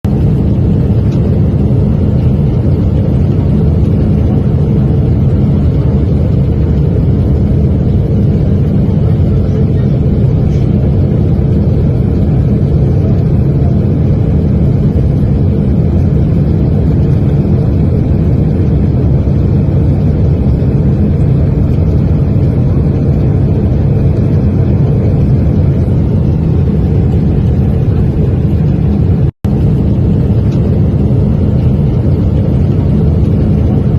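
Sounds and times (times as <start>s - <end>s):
airliner roaring in flight: 0.0s - 33.9s.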